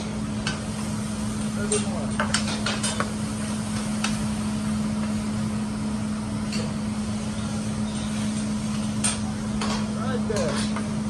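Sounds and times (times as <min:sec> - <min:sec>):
griddle hiss: 0:00.0 - 0:11.0
steady mechanical hum: 0:00.0 - 0:11.0.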